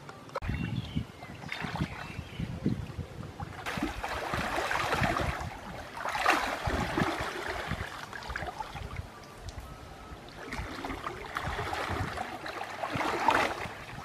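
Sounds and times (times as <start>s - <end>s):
water splashing from wading: 0.4s - 14.0s.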